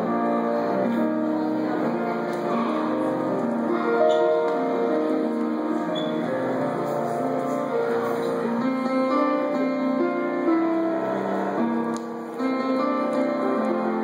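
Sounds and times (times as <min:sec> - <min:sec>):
grand piano playing: 0:00.0 - 0:14.0.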